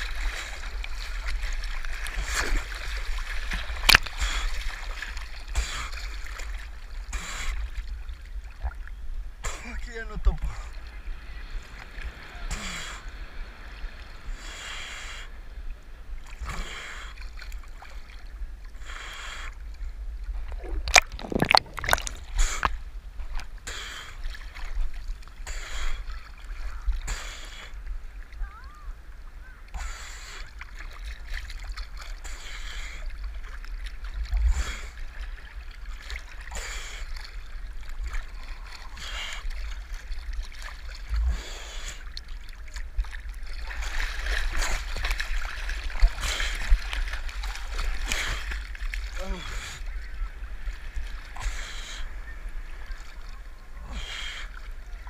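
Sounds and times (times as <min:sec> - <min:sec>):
water sloshing and splashing: 0:00.0 - 0:14.5, 0:15.7 - 0:55.0.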